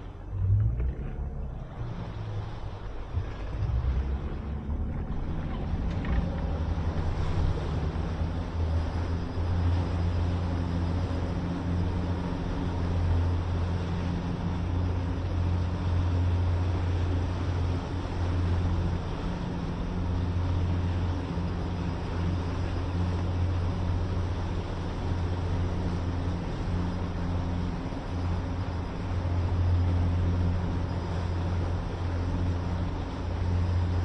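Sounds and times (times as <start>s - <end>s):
outboard motor drone: 0.0s - 34.0s
water rushing: 0.0s - 34.0s
wind: 0.0s - 34.0s.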